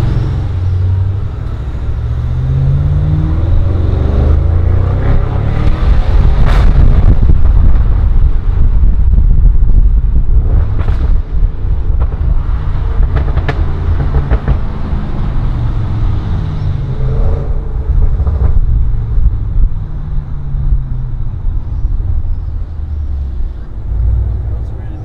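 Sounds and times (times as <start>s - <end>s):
deep car exhaust drone: 0.0s - 25.0s.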